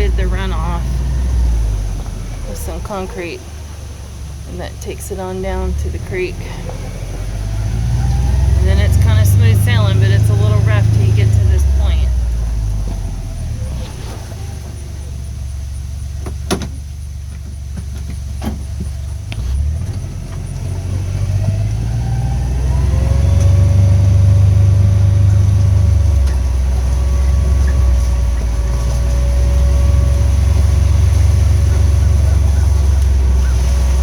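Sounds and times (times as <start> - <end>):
engine whine rising in pitch: 0.0 - 16.0, 19.3 - 34.0
vehicle engine rumbling: 0.0 - 34.0.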